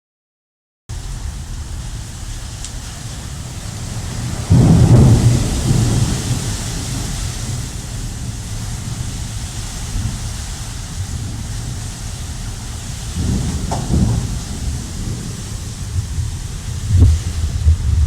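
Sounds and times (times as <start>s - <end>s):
rain falling steadily: 0.9s - 18.0s
thunderclap rumbling: 0.9s - 18.0s.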